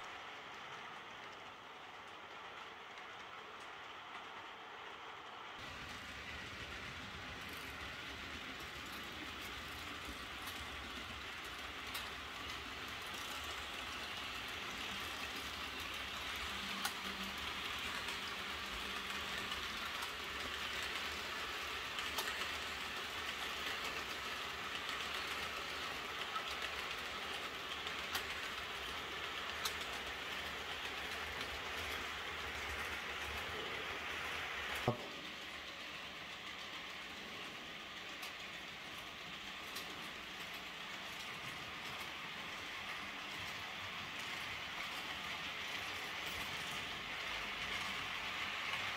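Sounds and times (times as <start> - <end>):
model train wheels rattling on track: 0.0 - 48.9.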